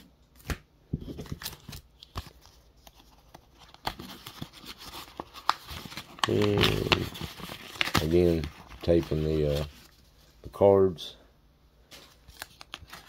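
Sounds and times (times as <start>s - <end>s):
paper and plastic rustling: 1.0s - 10.3s, 11.8s - 13.0s.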